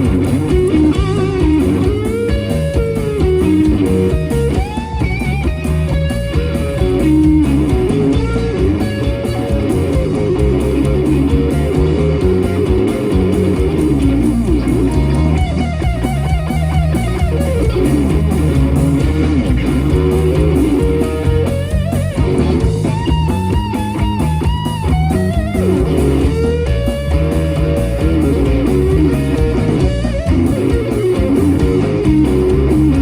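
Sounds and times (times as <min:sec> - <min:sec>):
bass and drums groove: 0:00.0 - 0:33.0
lead electric guitar bending notes: 0:00.0 - 0:33.0.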